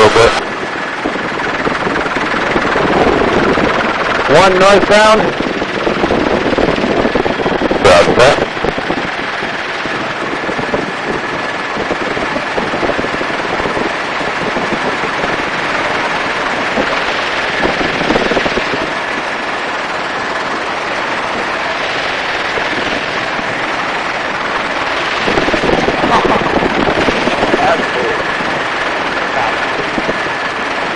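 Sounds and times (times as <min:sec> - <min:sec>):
faint turbine whine: 0:00.0 - 0:30.9
helicopter rotor chop: 0:00.0 - 0:30.9
rushing wind: 0:00.0 - 0:30.9.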